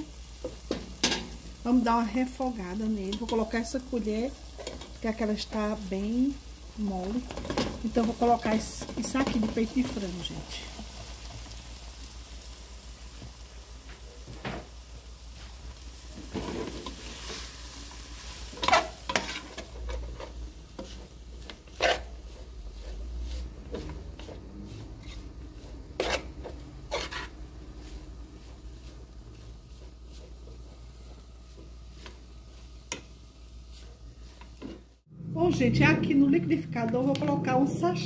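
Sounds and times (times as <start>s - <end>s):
chicken sizzling in pot: 0.0s - 36.0s.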